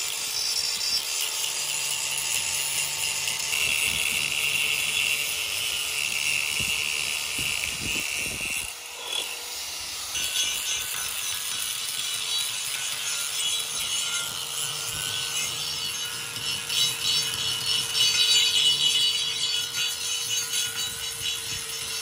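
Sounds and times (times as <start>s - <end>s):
tool rasping on metal: 0.0s - 22.0s.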